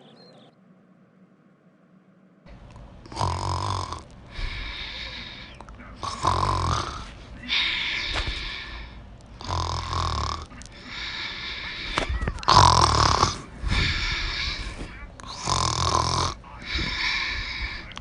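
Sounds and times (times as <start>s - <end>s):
person snoring: 3.0s - 18.0s.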